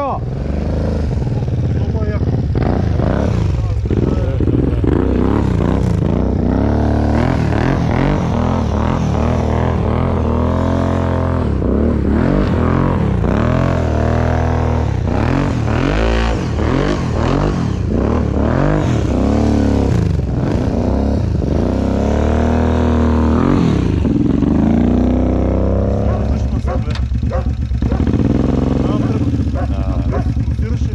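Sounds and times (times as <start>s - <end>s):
engine revving: 0.0s - 30.9s.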